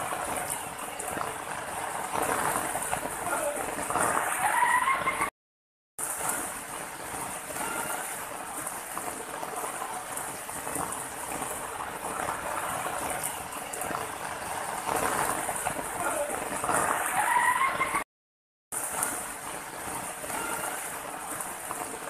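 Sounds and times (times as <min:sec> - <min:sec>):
water running over rocks: 0:00.0 - 0:04.8, 0:06.0 - 0:17.6, 0:18.7 - 0:22.0.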